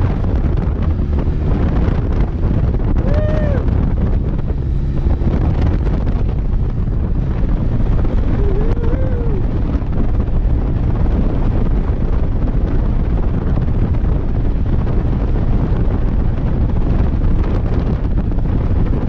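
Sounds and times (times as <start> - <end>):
motorcycle engine rumble: 0.0 - 19.0
wind buffeting microphone: 0.0 - 19.0.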